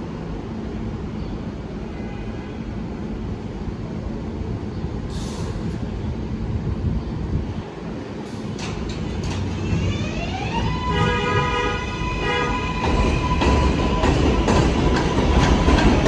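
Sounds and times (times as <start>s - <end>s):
subway train rumble: 0.0s - 16.0s.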